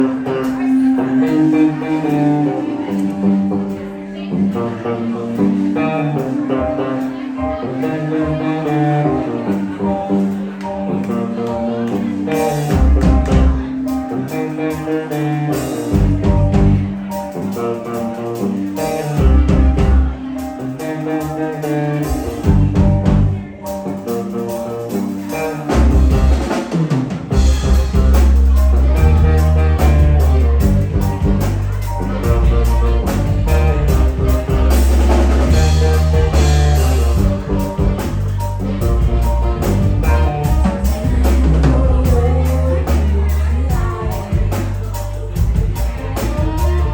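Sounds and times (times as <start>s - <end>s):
live band playing: 0.0s - 46.9s
steady bass line: 0.0s - 46.9s.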